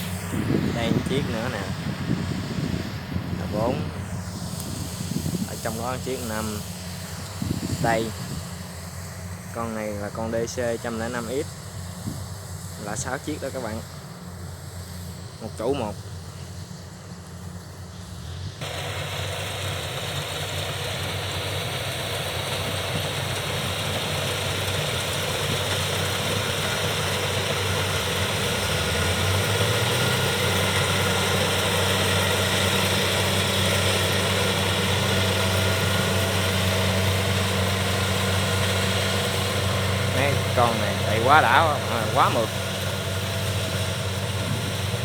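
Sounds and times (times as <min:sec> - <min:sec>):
combine harvester engine drone: 0:00.0 - 0:45.0
rushing machinery noise: 0:00.0 - 0:45.0.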